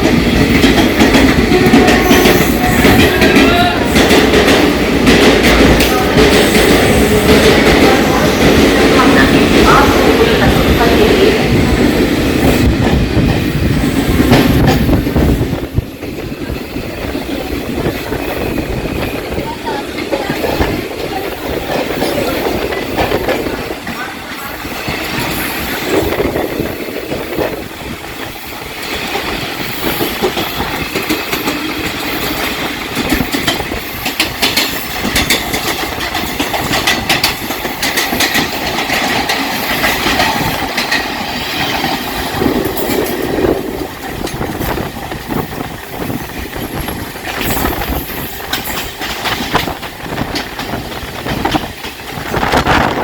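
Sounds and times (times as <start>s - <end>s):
train rolling rumble: 0.0s - 53.0s.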